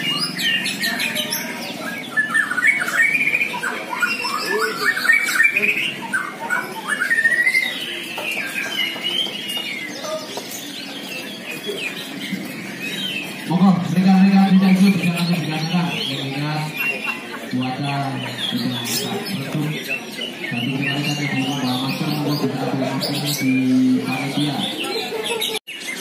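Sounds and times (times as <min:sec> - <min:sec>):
songbirds singing in chorus: 0:00.0 - 0:26.0.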